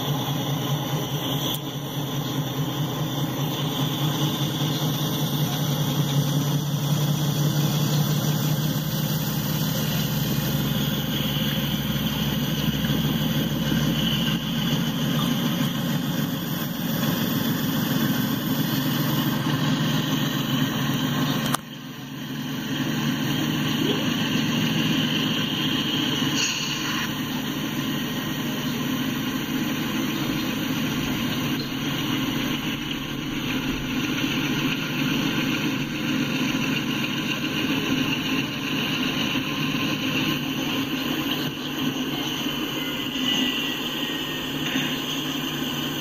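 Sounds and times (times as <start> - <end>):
diesel locomotive engines droning: 0.0 - 46.0.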